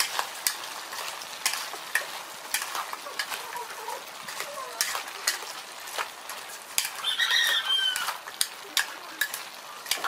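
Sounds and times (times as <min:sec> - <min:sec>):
metal ladle scraping pot: 0:00.0 - 0:10.0.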